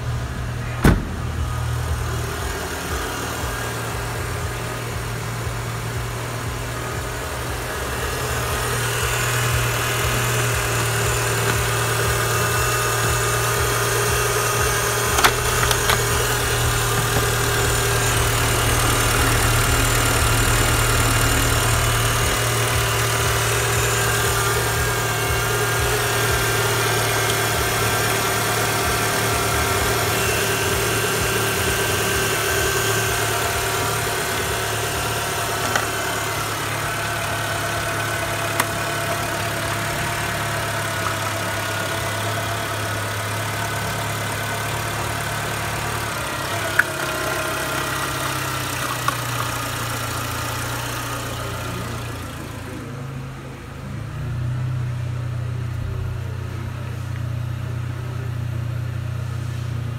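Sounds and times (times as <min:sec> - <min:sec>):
petrol engine idling: 0:00.0 - 0:59.9.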